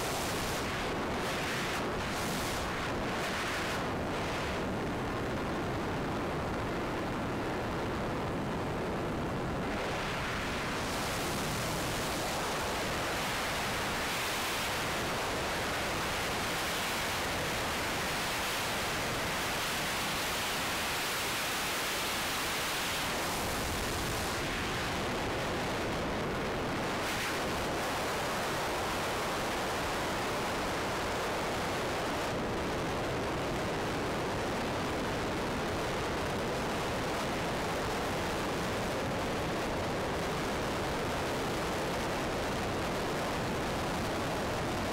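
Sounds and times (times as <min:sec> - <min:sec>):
airflow and propeller noise: 0:00.0 - 0:44.9.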